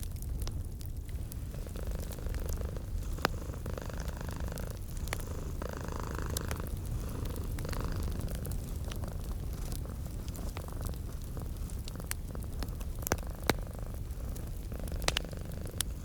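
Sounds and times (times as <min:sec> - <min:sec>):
wood fire crackling and popping: 0:00.0 - 0:16.0
cat purring: 0:01.1 - 0:16.0.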